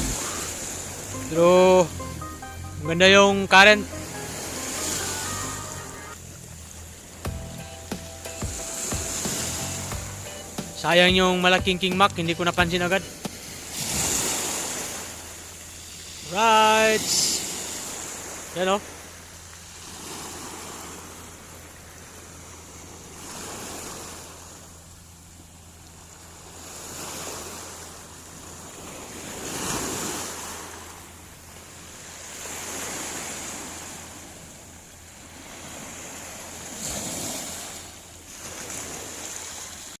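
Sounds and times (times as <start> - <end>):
sea waves washing: 0.0 - 40.0.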